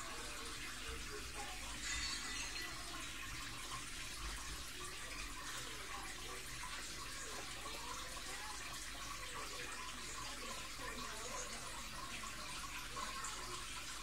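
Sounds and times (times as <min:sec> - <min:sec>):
aquarium filter water trickling: 0:00.0 - 0:14.0.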